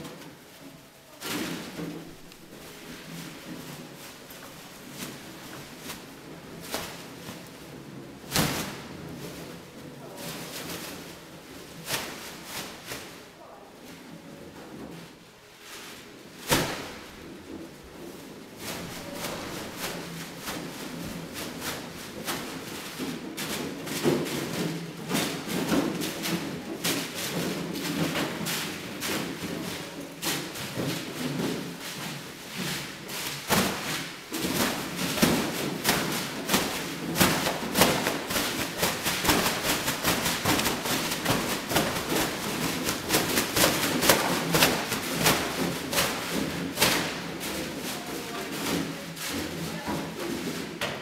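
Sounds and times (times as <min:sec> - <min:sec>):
plastic bags crinkling and rustling: 0:00.0 - 0:51.0.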